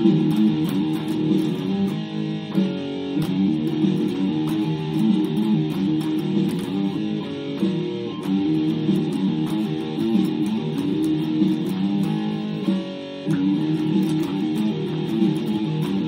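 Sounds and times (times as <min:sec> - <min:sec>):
electric guitar riff: 0:00.0 - 0:16.0.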